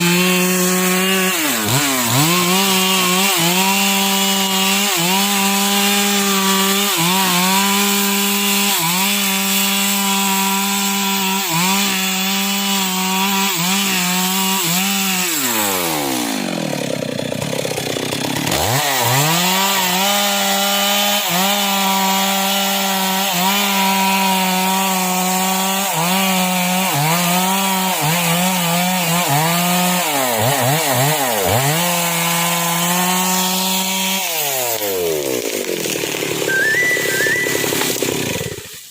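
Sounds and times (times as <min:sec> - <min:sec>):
chainsaw cutting a tree: 0:00.0 - 0:38.9.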